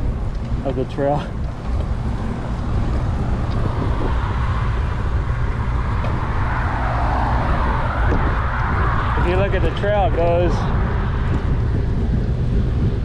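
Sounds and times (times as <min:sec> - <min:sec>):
road traffic rushing: 0:00.0 - 0:13.0
wind rumbling on microphone: 0:00.0 - 0:13.0.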